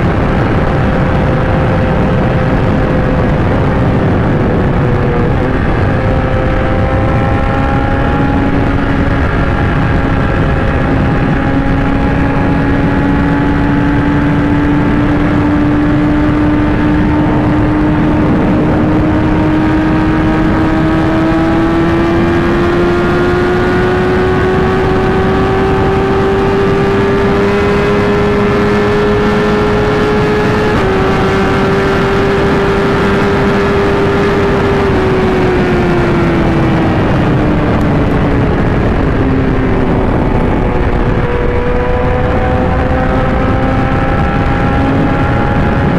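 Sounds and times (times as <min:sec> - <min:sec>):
motorcycle engine at high revs: 0:00.0 - 0:45.9
wind rush: 0:00.0 - 0:45.9.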